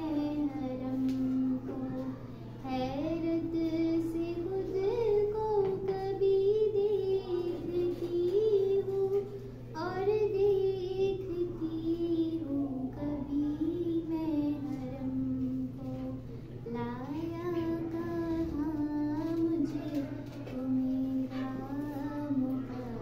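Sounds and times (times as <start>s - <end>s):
girl singing slow melody: 0.0s - 23.0s.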